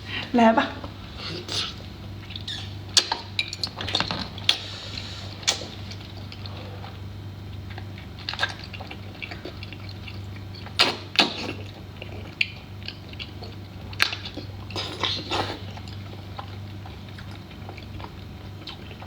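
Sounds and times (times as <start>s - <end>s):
steady low hum: 0.0s - 19.0s
wet chewing: 1.3s - 19.0s.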